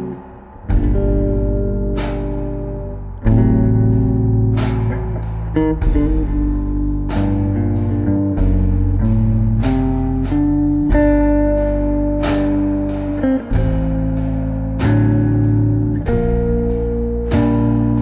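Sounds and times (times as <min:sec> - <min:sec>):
electric guitar chords ringing: 0:00.0 - 0:18.0
low bass line: 0:00.0 - 0:18.0.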